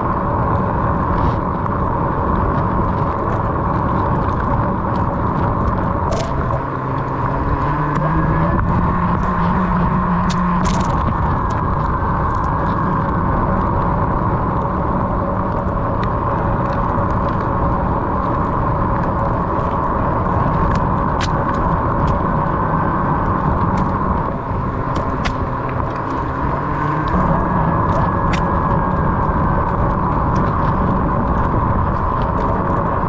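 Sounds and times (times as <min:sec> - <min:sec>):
low rumble of riding: 0:00.0 - 0:33.0
electric motor whine: 0:02.0 - 0:33.0.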